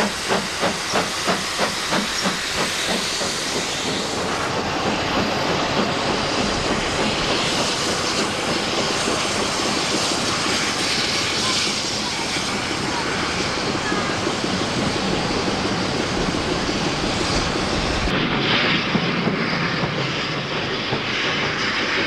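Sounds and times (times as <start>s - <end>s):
steady rushing of steam: 0.0s - 22.0s
steam locomotive exhaust beats: 0.0s - 22.0s.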